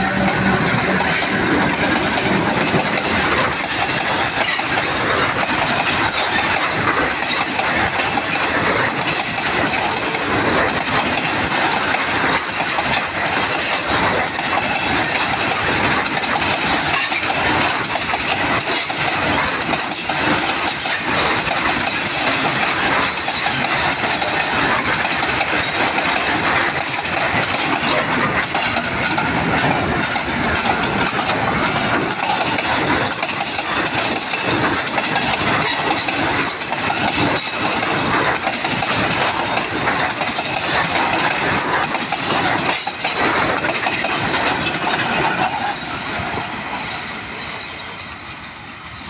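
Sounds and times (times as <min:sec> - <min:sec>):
freight train wheels clattering: 0:00.0 - 0:49.0.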